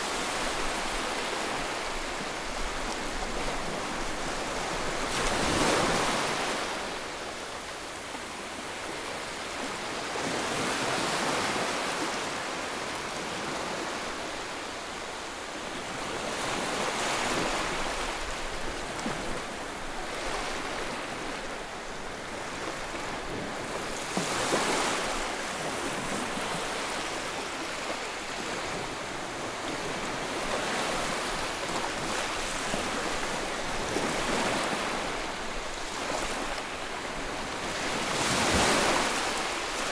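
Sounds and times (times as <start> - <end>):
ocean waves breaking: 0.0 - 15.0, 15.6 - 39.9.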